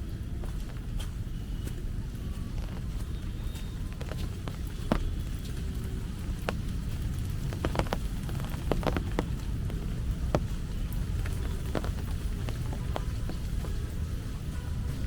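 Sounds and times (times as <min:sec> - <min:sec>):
rain drops ticking: 0:00.0 - 0:15.0
steady low rumble: 0:00.0 - 0:15.0.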